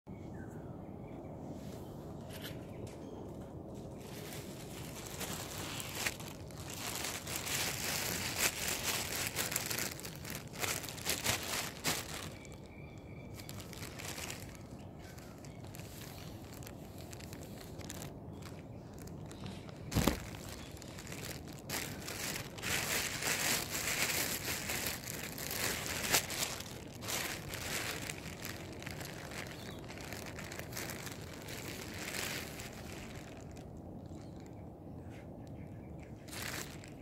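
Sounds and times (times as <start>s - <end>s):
crinkly rustling and crackling: 2.1s - 37.0s.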